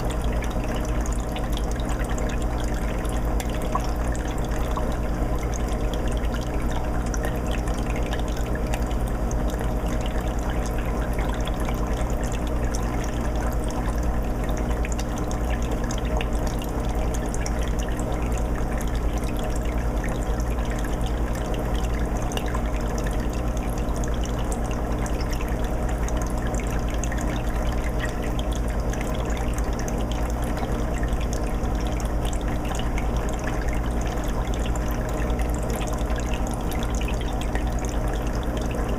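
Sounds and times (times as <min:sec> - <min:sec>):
low filter hum: 0:00.0 - 0:38.9
water trickling and bubbling: 0:00.0 - 0:38.9.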